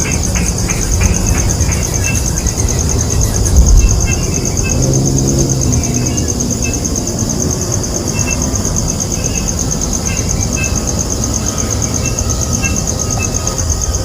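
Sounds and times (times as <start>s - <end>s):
insect trilling in pulses: 0.0s - 14.0s
loud low rumbling: 0.0s - 14.0s.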